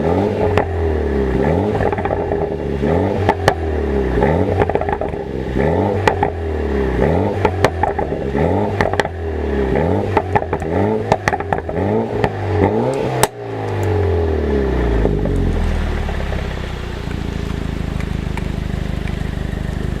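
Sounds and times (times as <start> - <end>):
car engine revving and idling: 0.0 - 20.0
exhaust pops and crackles: 0.4 - 0.8, 1.6 - 6.5, 7.3 - 9.2, 10.0 - 14.0, 15.0 - 20.0.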